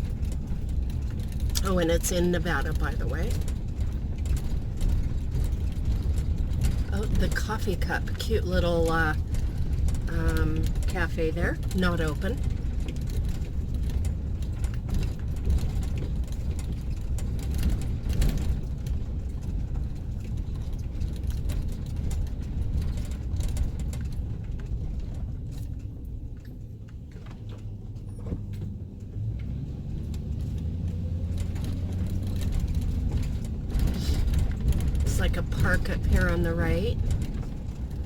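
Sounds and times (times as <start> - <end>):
small clicks and rattles: 0.0 - 38.0
van engine and road noise: 0.0 - 38.0.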